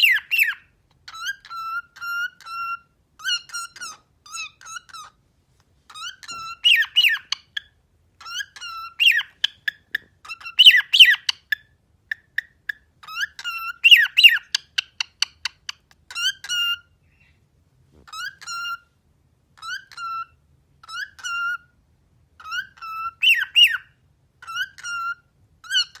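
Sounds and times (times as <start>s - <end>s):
cockatiel whistling and chirping: 0.0s - 5.2s, 5.9s - 17.4s, 18.0s - 18.9s, 19.6s - 21.8s, 22.4s - 26.0s.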